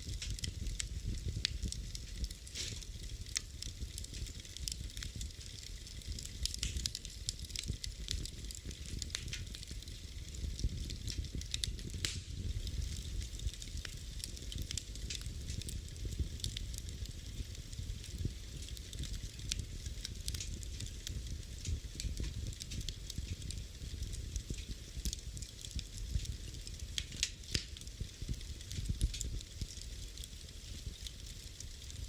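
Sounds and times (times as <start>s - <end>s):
low rumble of flames: 0.0s - 32.0s
wood fire crackling: 0.0s - 32.0s.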